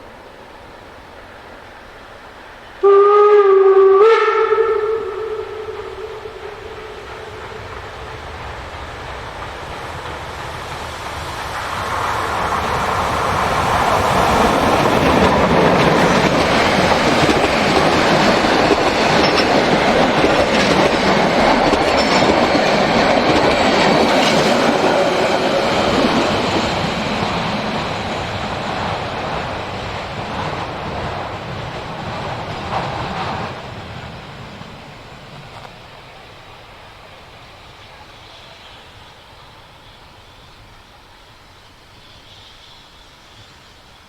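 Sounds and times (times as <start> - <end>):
train passing with wheel clatter: 0.0 - 44.0.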